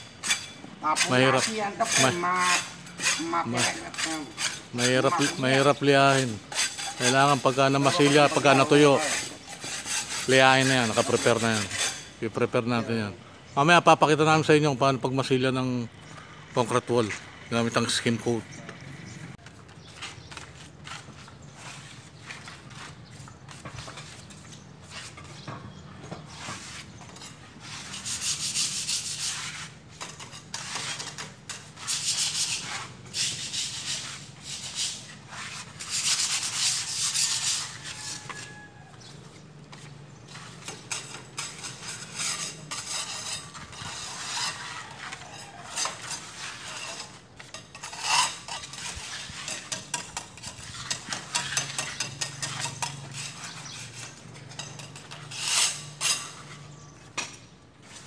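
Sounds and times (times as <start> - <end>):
trowel scraping on concrete: 0.0 - 58.0.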